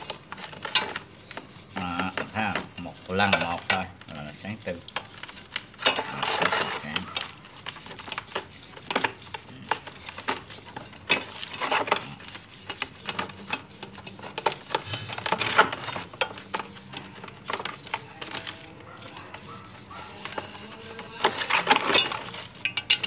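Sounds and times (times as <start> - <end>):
cloth scrubbing brass: 1.0 - 4.9, 6.0 - 14.8, 15.4 - 22.6.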